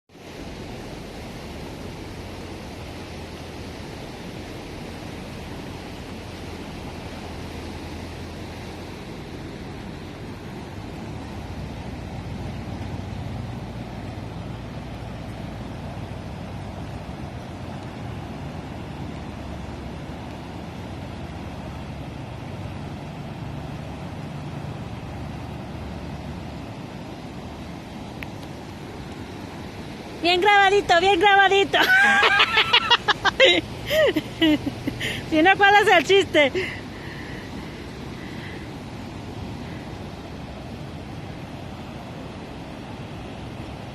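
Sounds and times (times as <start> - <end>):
river rushing: 0.1 - 43.9.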